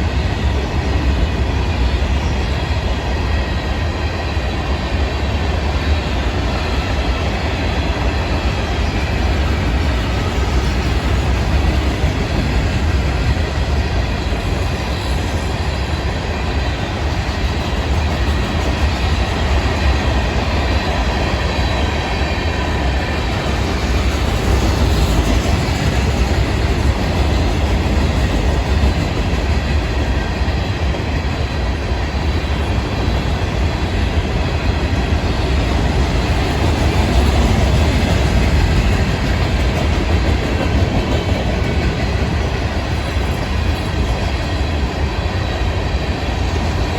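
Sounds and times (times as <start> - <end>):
freight train cars rolling past: 0.0 - 46.9
steel wheels rumbling on rails: 0.0 - 46.9.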